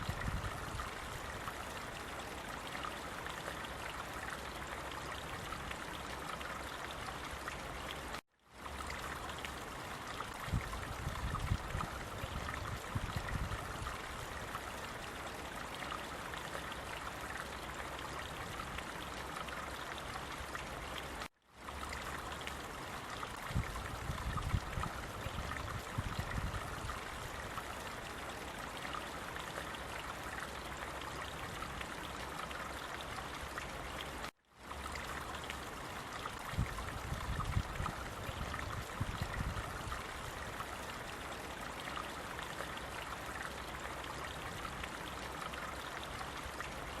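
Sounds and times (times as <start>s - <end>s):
water flowing: 0.0s - 47.0s.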